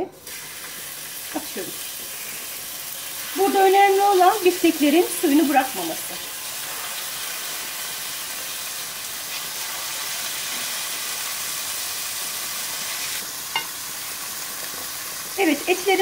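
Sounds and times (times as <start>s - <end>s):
steaks sizzling in a pan: 0.3s - 16.0s.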